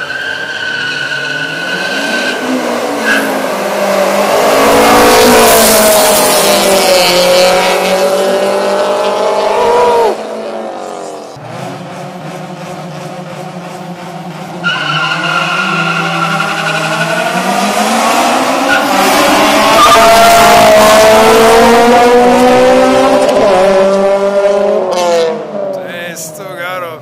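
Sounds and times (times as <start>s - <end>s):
cars accelerating past: 1.4s - 26.7s.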